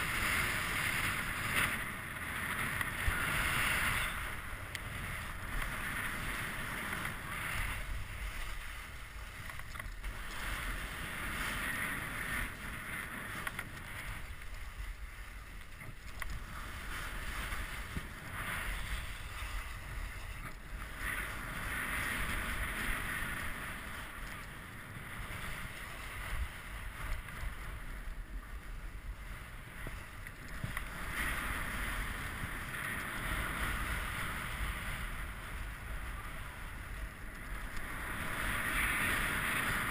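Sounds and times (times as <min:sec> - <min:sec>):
skis hissing over snow: 0:00.0 - 0:39.9
wind rumble on microphone: 0:00.0 - 0:39.9.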